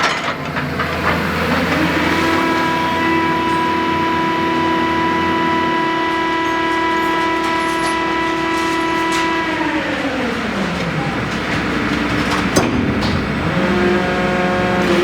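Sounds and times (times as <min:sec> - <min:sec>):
hydraulic pump motor whine: 0:00.0 - 0:15.0.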